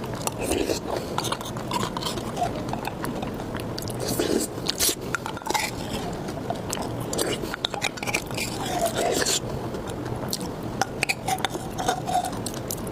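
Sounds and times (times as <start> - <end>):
chewing with wet mouth clicks: 0.0 - 12.9.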